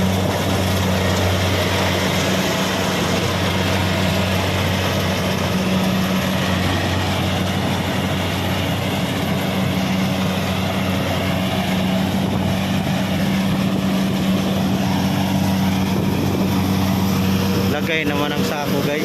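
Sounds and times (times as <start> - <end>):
combine harvester engine hum: 0.0 - 19.0.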